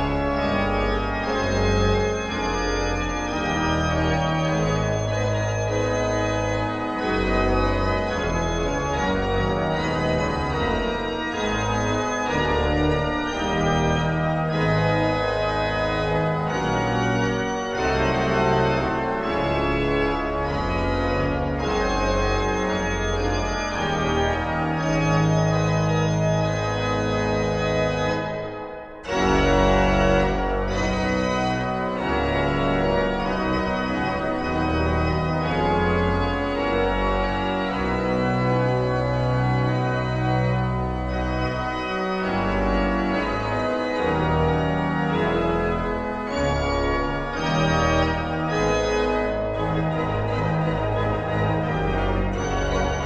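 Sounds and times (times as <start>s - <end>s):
pipe organ chords: 0.0s - 53.0s.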